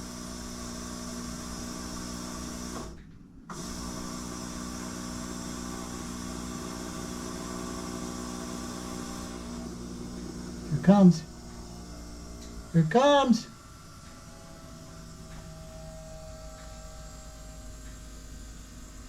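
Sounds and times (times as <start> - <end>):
electric fuel pump humming: 0.0 - 19.0.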